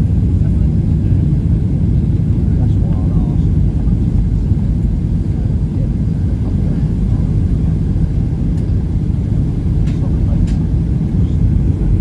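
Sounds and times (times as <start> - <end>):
airplane cabin jet engine roar: 0.0 - 12.0.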